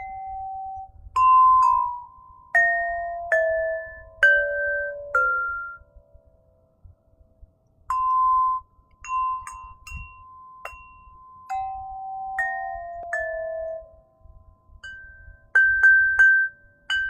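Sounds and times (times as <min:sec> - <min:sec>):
crystal harp slow melody: 0:00.0 - 0:17.0.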